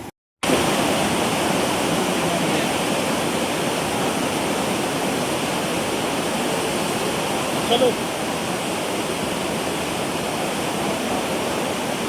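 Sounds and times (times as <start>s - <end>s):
river water rushing: 0.4s - 12.0s.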